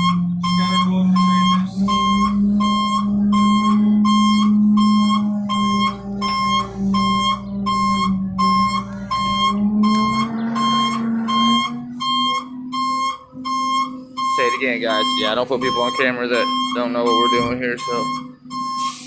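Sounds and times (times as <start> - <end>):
diesel truck engine running: 0.0 - 19.0
reversing alarm beeping: 0.0 - 19.0.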